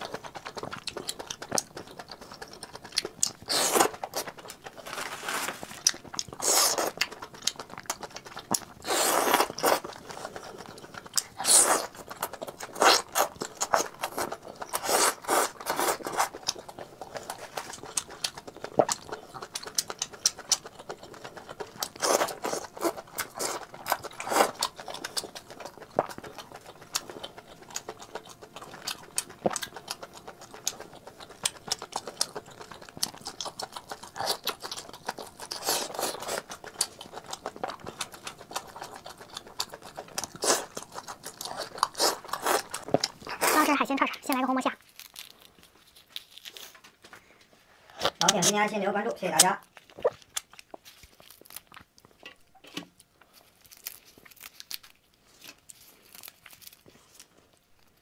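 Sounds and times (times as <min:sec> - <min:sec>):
wet chewing and lip smacking: 0:00.0 - 0:04.9, 0:05.6 - 0:48.4, 0:49.6 - 0:52.2.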